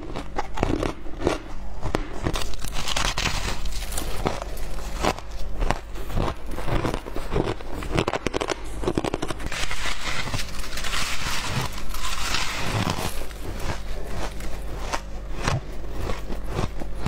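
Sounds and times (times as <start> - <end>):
chewing shaved ice: 0.0 - 17.0
hands squeezing powdery ice: 2.3 - 16.8.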